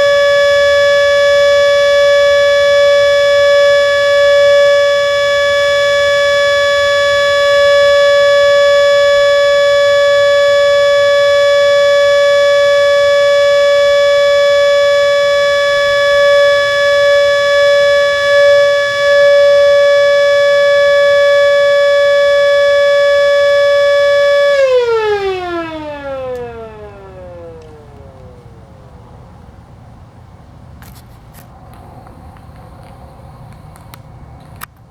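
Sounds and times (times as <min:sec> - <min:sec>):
warning siren winding down: 0:00.0 - 0:30.4.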